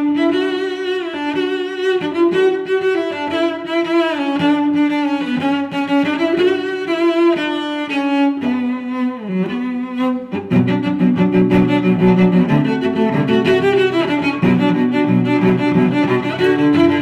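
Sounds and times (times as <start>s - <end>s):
bowed cello-range string melody: 0.0s - 17.0s.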